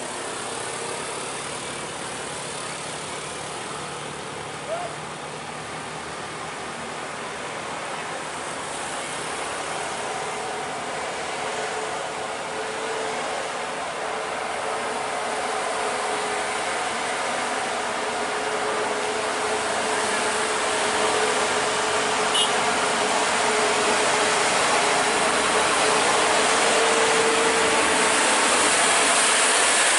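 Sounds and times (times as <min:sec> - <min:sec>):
truck engine droning: 0:00.0 - 0:29.9.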